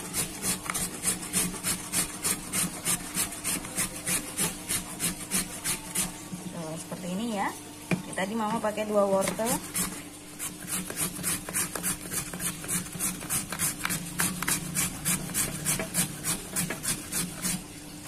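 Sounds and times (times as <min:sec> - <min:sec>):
carrot rasping on a grater: 0:00.0 - 0:06.2, 0:09.2 - 0:17.7.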